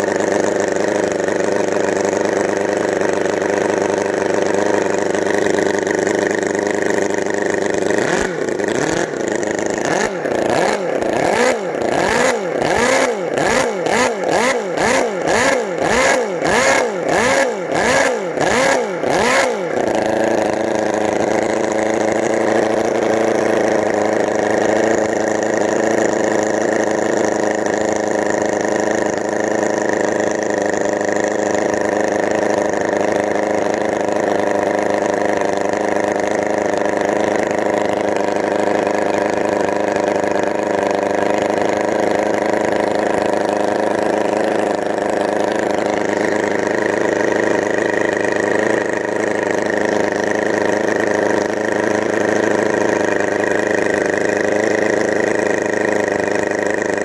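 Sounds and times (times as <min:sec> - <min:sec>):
model engine idling and revving: 0:00.0 - 0:57.0.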